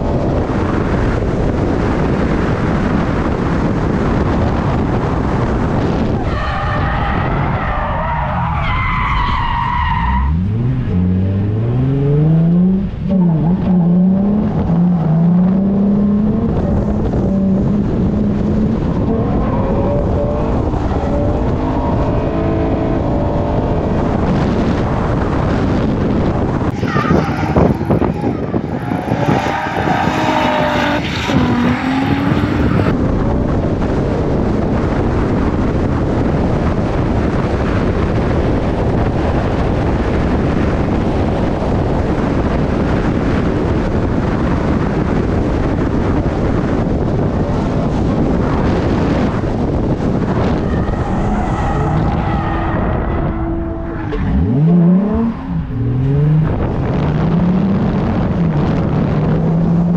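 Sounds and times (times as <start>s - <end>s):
wind noise: 0.0s - 59.9s
race car engine revving: 9.6s - 59.9s.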